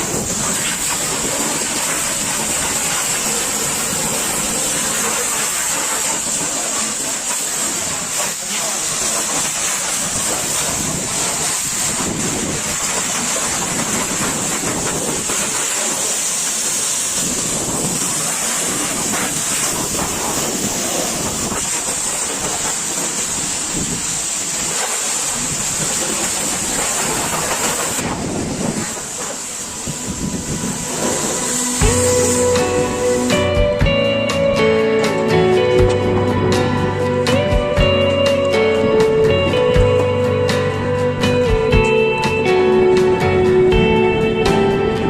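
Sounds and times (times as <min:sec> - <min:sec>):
pressure washer spraying water: 0:00.0 - 0:45.0.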